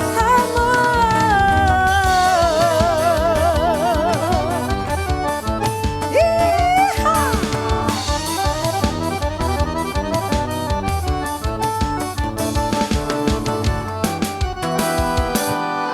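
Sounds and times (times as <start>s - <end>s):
forro band music: 0.0s - 15.9s.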